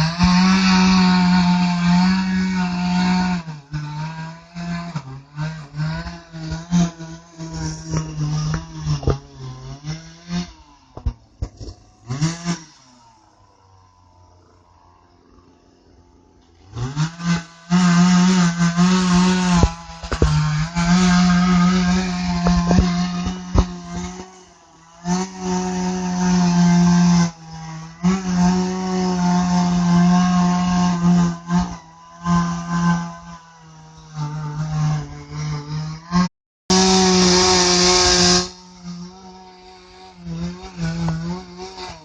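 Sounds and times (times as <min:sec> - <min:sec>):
chainsaw cutting a tree trunk: 0:00.0 - 0:42.0.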